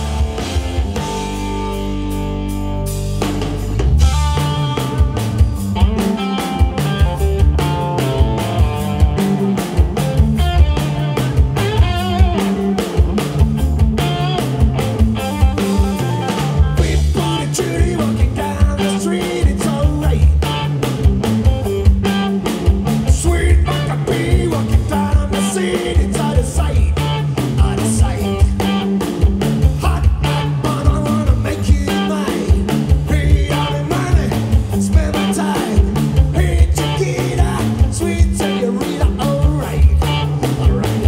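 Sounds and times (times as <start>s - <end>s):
drum kit beat: 0.0s - 41.0s
electric guitars: 0.0s - 41.0s.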